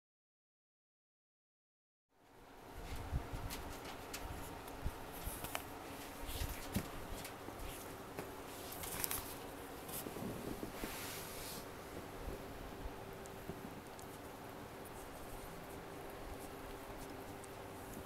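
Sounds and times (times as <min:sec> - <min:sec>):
puppies rustling on a blanket: 0:02.7 - 0:18.0.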